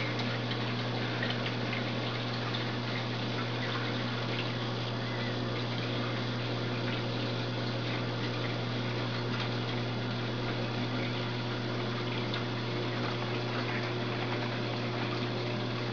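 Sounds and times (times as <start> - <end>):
water pump humming: 0.0 - 15.9.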